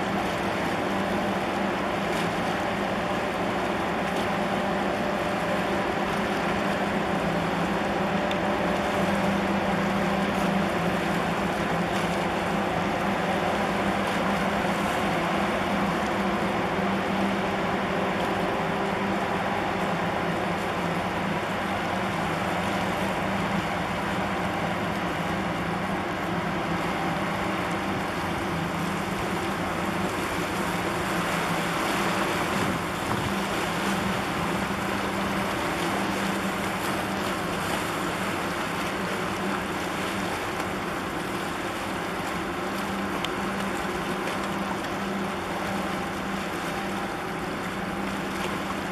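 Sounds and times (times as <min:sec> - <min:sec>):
boat engine humming: 0:00.0 - 0:48.9
water rushing: 0:00.0 - 0:48.9.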